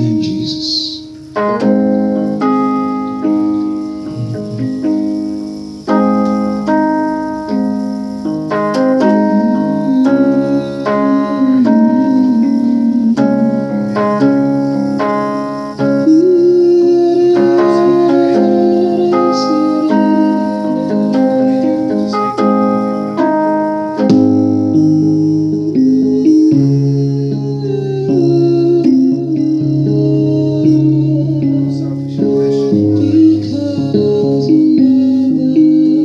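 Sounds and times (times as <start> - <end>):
electric keyboard worship chords: 0.0 - 36.0.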